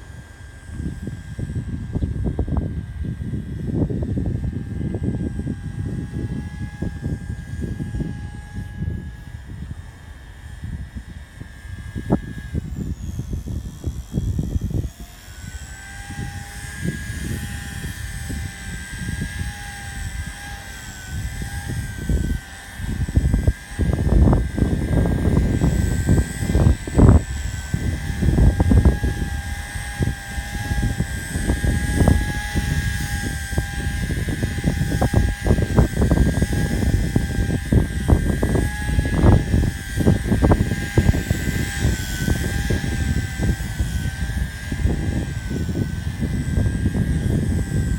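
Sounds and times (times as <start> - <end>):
helicopter motor whine: 0.0 - 47.9
wind buffeting microphone: 0.0 - 47.9.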